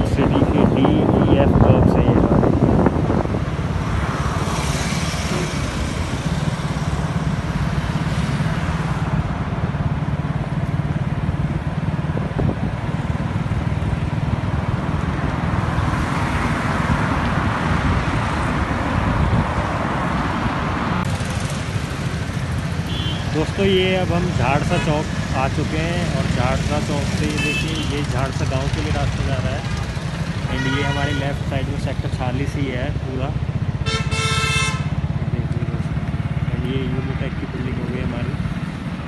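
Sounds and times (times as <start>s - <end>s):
passing traffic rush: 0.0s - 39.0s
vehicle engine hum and road noise: 0.0s - 39.0s.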